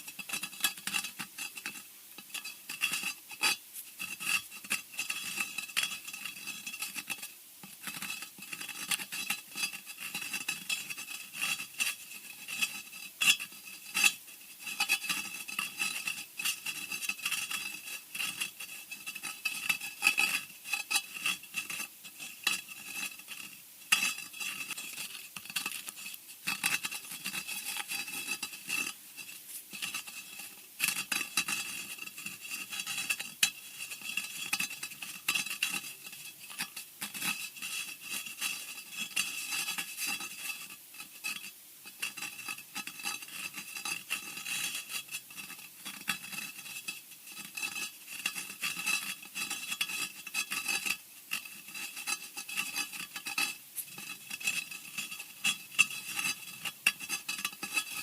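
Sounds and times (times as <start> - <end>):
scratching on hard surface: 0.0 - 58.0.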